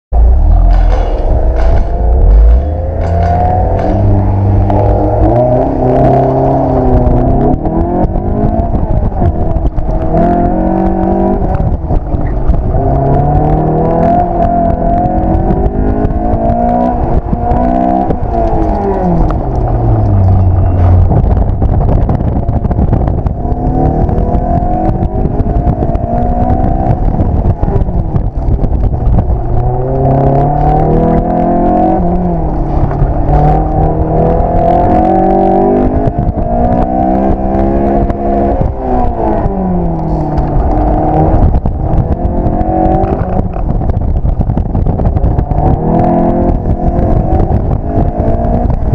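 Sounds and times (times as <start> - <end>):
car engine revving hard: 0.2 - 48.9.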